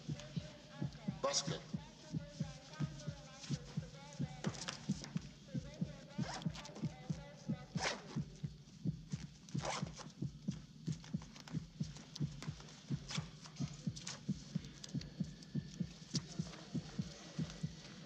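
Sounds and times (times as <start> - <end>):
heartbeat thumps: 0.0 - 18.0.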